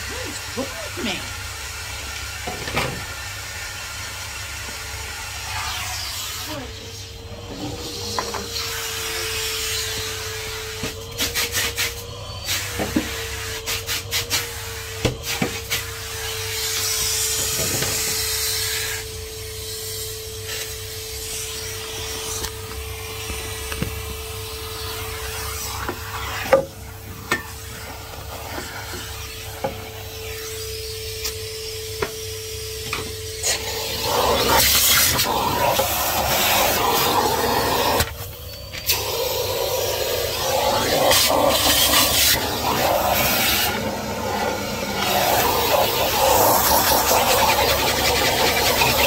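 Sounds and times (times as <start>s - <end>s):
vacuum cleaner motor whine: 0.0s - 49.0s.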